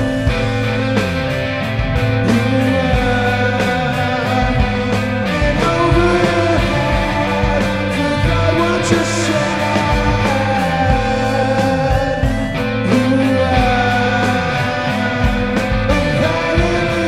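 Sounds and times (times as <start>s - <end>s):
bass guitar: 0.0s - 17.0s
drums: 0.0s - 17.0s
electric guitar: 0.0s - 17.0s
man singing: 2.1s - 17.0s.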